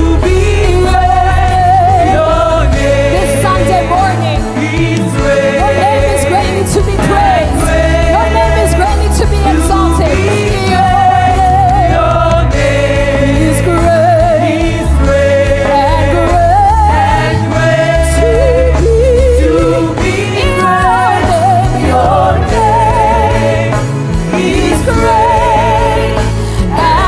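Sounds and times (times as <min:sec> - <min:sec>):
band with steady bass line: 0:00.0 - 0:27.0
person singing with vibrato: 0:00.0 - 0:27.0.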